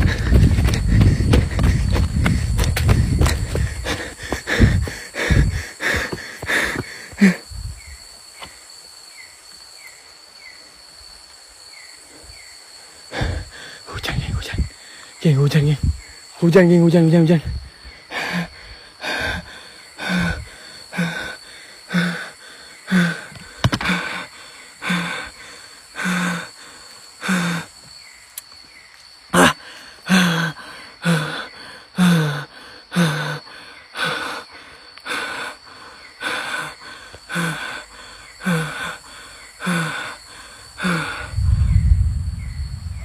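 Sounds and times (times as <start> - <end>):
man breathing hard: 0.0 - 7.8, 12.1 - 15.2, 17.5 - 27.8, 29.4 - 43.0
high whine of insects: 0.0 - 43.0.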